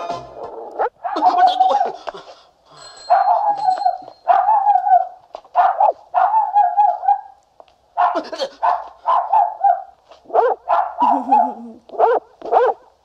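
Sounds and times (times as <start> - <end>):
dog barking: 0.8 - 2.0, 3.1 - 7.4, 8.0 - 13.0.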